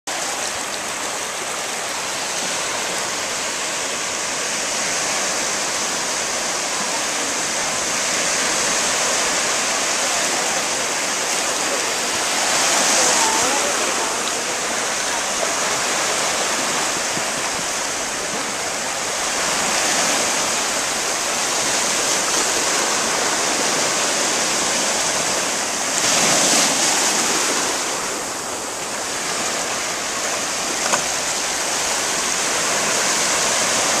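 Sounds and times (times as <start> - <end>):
small waves breaking: 0.1 - 34.0.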